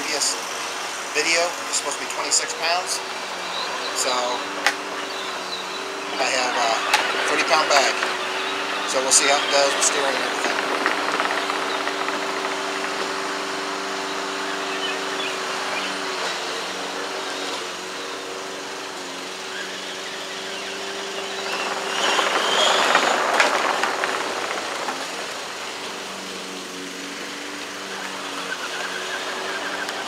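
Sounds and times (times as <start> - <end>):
electric motor whine: 0.0 - 30.0
rush of noise: 0.0 - 30.0.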